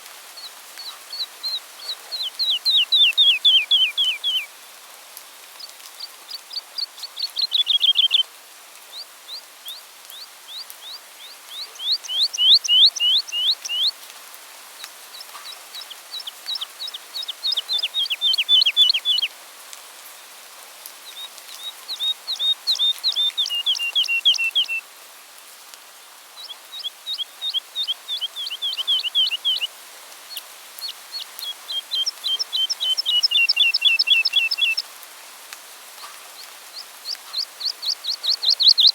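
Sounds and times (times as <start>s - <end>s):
songbird singing: 0.0s - 4.5s, 5.4s - 8.3s, 8.9s - 14.1s, 14.8s - 19.3s, 20.9s - 24.9s, 26.4s - 34.9s, 36.0s - 38.9s.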